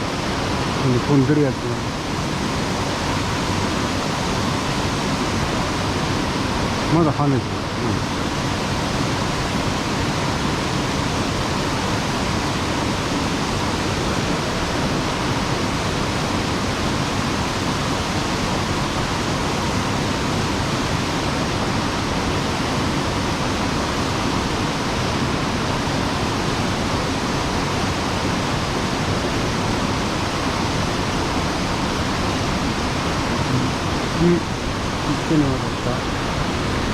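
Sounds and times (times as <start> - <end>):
stream water rushing over rocks: 0.0 - 36.9.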